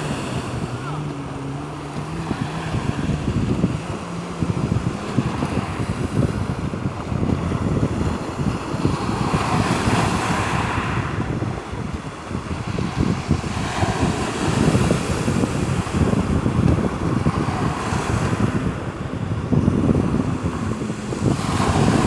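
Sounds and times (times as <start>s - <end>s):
small sea waves: 0.0s - 22.0s
wind buffeting microphone: 0.0s - 22.0s.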